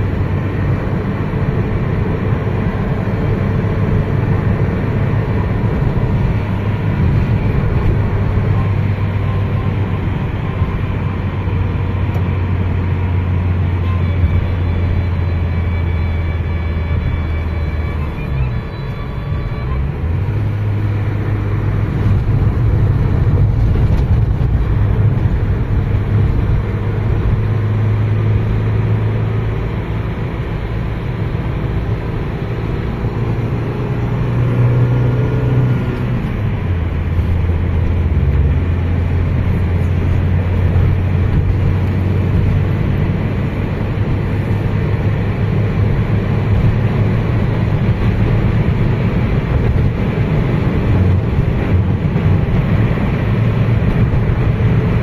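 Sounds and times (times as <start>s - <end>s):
car cabin engine and road drone: 0.0s - 55.0s.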